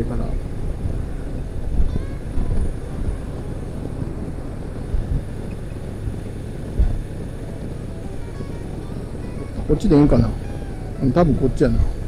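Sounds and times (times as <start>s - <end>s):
motorcycle engine drone: 0.0s - 12.0s
wind rumble on microphone: 0.0s - 12.0s.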